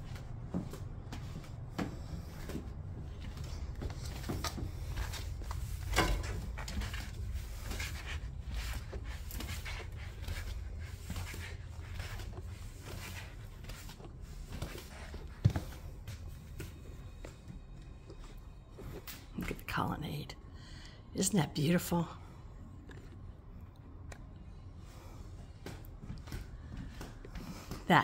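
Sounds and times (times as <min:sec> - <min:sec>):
footsteps going down stairs: 0:00.0 - 0:19.7, 0:24.0 - 0:28.0.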